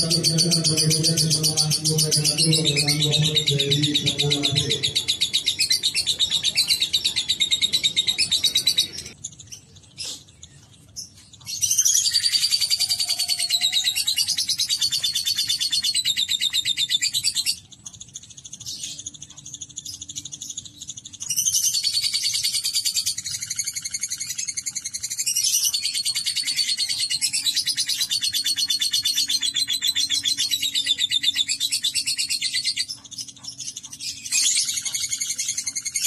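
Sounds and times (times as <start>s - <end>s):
lovebird chattering trill: 0.0s - 10.2s, 11.6s - 36.0s.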